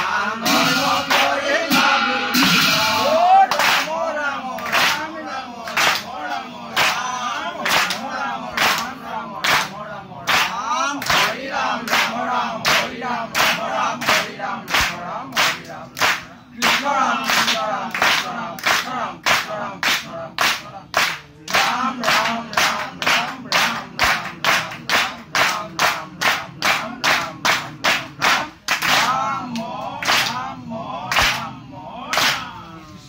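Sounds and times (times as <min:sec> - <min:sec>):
men chanting together: 0:00.0 - 0:33.0
unison hand claps: 0:01.1 - 0:01.4, 0:03.5 - 0:32.5.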